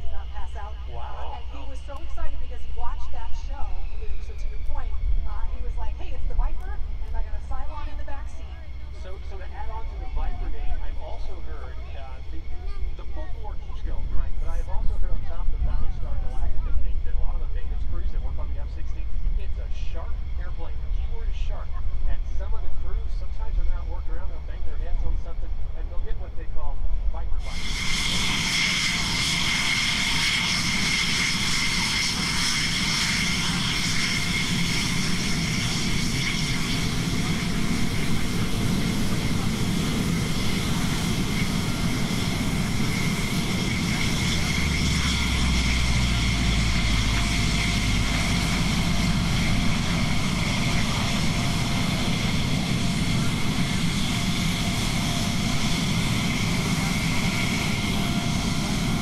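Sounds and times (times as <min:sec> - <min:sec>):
jet engine whine and rumble: 0:00.0 - 0:59.0.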